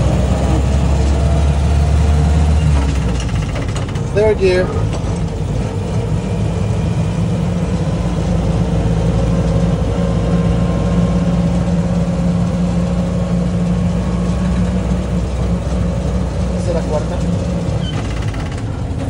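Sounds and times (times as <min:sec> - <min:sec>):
engine droning under load: 0:00.0 - 0:19.0.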